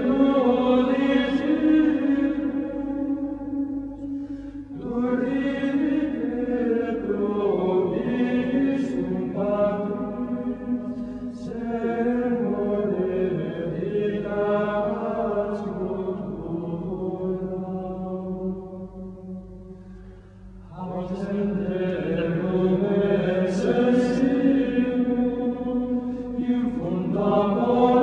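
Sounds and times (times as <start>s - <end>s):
choral chant: 0.0s - 19.9s, 20.6s - 28.0s.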